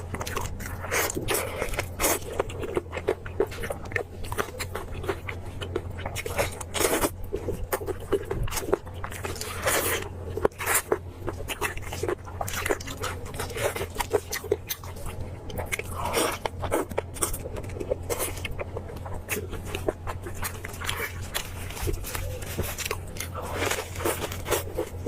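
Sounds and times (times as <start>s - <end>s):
low hum: 0.0s - 25.0s
person chewing meat: 0.0s - 25.0s.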